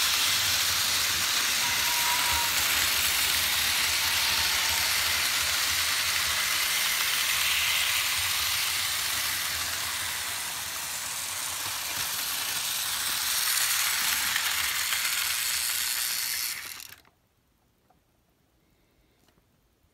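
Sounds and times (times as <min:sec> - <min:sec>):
model train wheels on rails: 0:00.0 - 0:17.2.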